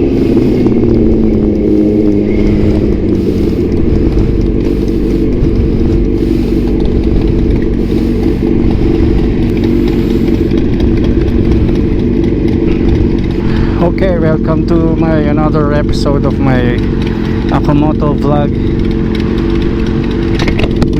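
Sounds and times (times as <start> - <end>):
loud motorcycle engine: 0.0 - 20.9.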